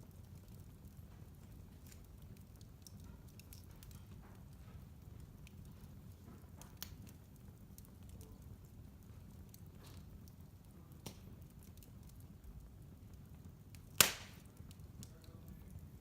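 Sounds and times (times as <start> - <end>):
low fire rumble: 0.0 - 16.0
wood fire crackling and popping: 0.0 - 16.0.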